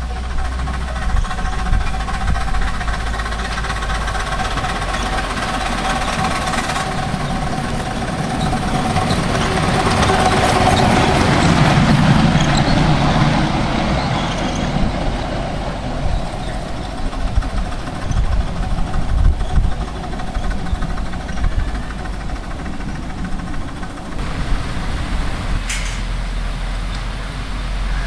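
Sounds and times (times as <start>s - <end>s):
steam locomotive hissing: 0.0s - 28.0s
wheels rumbling on track: 0.0s - 28.0s.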